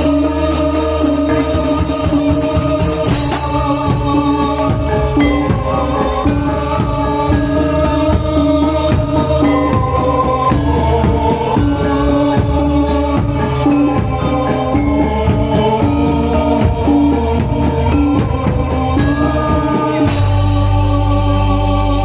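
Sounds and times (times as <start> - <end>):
deep low accompaniment: 0.0 - 22.0
metallophones striking notes: 0.0 - 22.0
person singing: 0.0 - 22.0.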